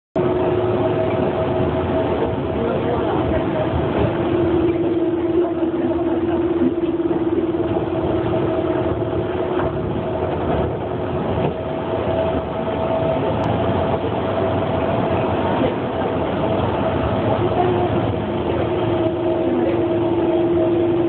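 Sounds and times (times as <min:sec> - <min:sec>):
train carriage rumble: 0:00.2 - 0:21.0.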